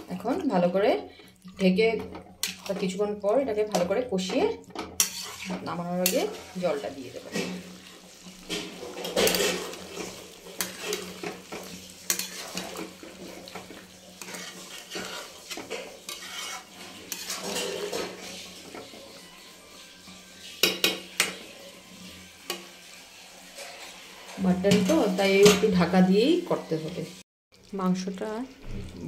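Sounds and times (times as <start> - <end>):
curry sizzling: 0.0 - 29.0
spatula scraping metal pan: 1.9 - 25.9.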